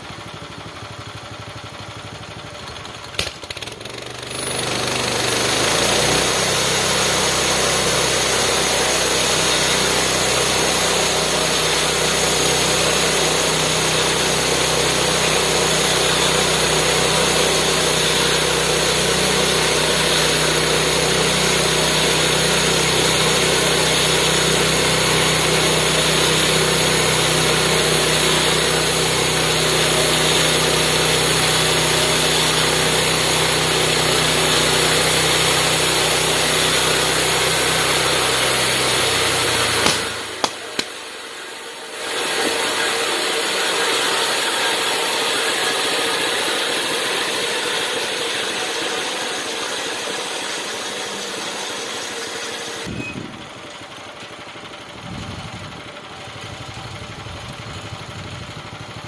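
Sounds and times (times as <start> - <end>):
bandsaw sawmill running: 0.0 - 59.0.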